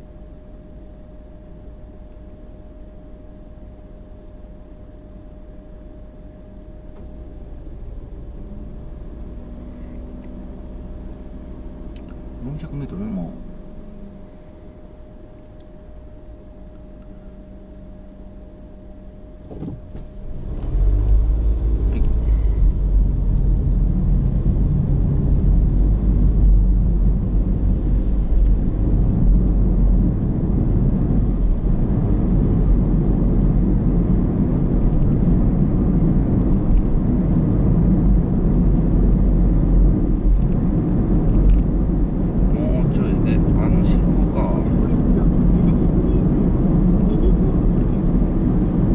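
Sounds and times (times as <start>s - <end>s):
car engine and tyre rumble: 0.0s - 48.9s.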